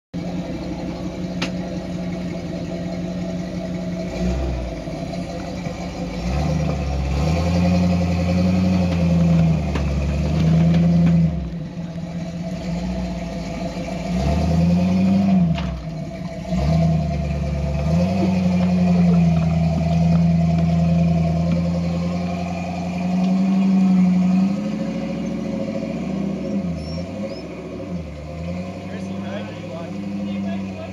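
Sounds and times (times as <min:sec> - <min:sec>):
off-road engine revving: 0:00.2 - 0:30.9.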